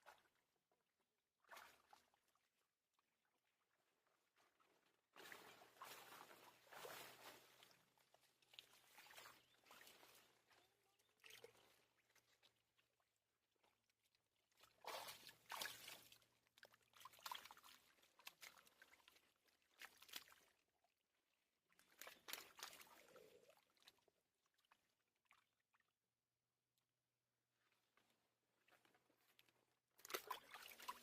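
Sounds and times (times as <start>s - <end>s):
water sloshing and splashing: 1.4s - 25.9s, 27.7s - 31.0s.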